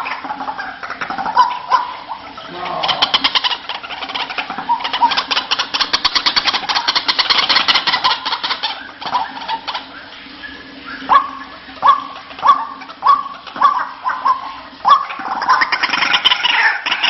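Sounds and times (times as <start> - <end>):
waterhen calling harshly: 0.0 - 17.0.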